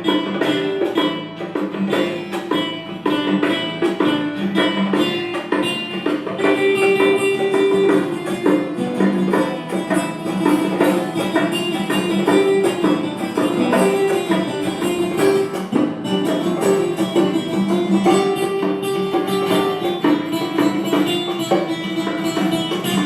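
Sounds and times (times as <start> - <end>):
band music with plucked guitar: 0.0 - 23.0.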